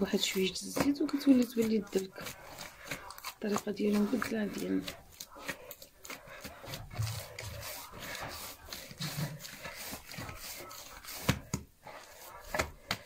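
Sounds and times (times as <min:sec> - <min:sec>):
hands kneading dough in clay bowl: 0:00.0 - 0:13.0.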